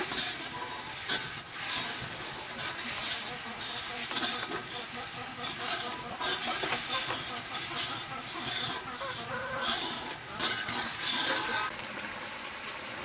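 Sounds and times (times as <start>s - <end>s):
hot oil sizzling in a wok: 0.0s - 13.0s.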